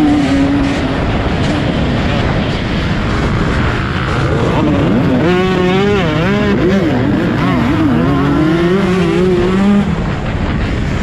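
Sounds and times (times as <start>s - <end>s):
motocross bike engine revving: 0.0s - 10.3s.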